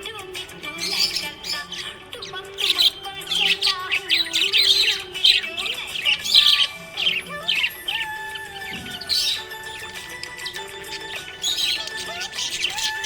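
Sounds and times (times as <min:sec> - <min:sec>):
budgerigars chirping: 0:00.0 - 0:13.0
song melody playing: 0:00.0 - 0:13.0.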